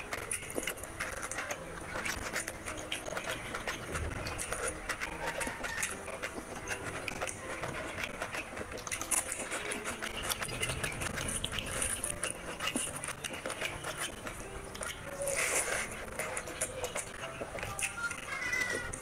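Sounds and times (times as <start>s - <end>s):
fingers squishing rice: 0.0s - 19.0s
wet chewing and lip-smacking: 0.0s - 19.0s.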